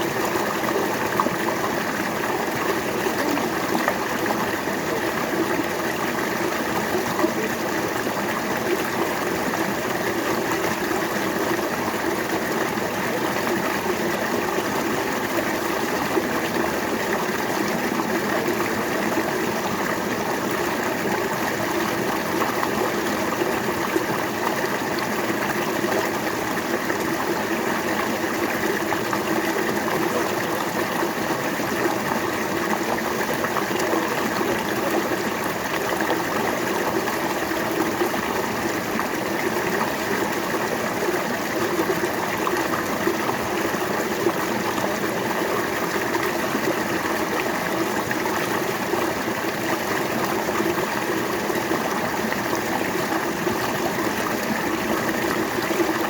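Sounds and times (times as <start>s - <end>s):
river water flowing over rocks: 0.0s - 56.0s.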